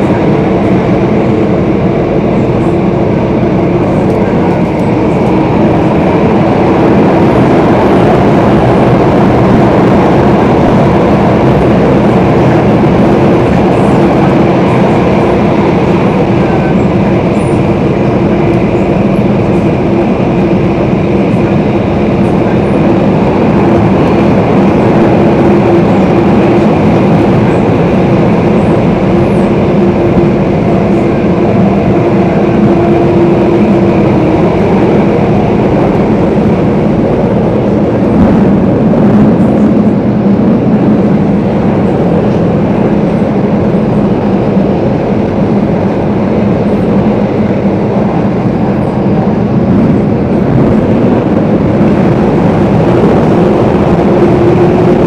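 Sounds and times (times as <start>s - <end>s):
humming tone: 0.0s - 55.0s
train rumbling through tunnel: 0.0s - 55.0s.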